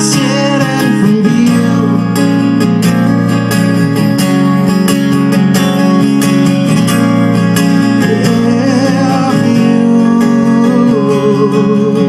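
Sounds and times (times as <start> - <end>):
live band with strummed guitar: 0.0 - 12.0.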